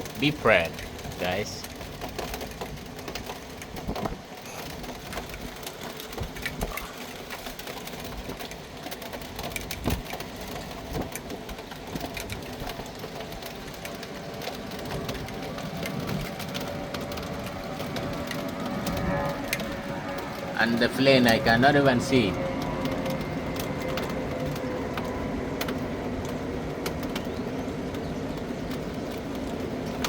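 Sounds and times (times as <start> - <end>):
raindrops ticking close: 0.0 - 30.0
steady rain falling: 0.0 - 30.0.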